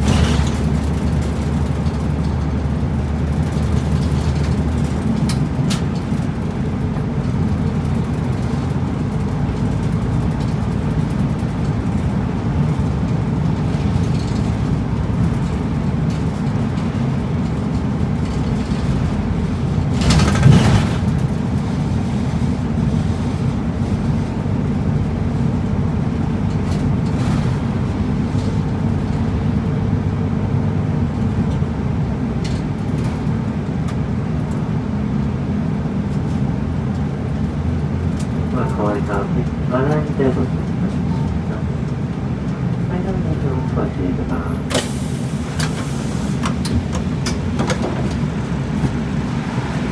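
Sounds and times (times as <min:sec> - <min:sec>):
bus engine rumble: 0:00.0 - 0:49.9.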